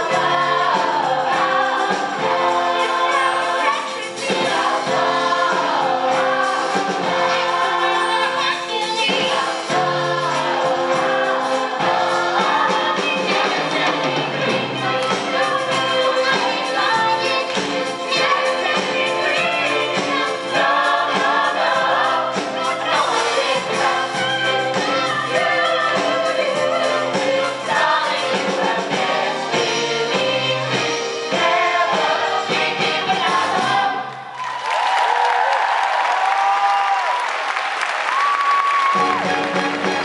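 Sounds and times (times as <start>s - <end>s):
cast singing together: 0.0s - 34.3s
live pit band: 0.0s - 40.0s.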